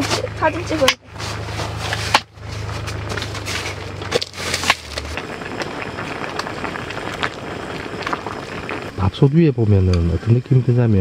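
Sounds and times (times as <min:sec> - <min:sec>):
low steady hum: 0:00.0 - 0:11.0
pot of pasta boiling hiss: 0:00.0 - 0:11.0.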